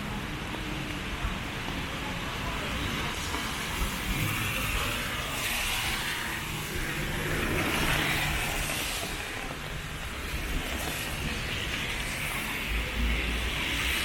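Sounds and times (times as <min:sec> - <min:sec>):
cars passing on wet road: 0:00.0 - 0:14.0.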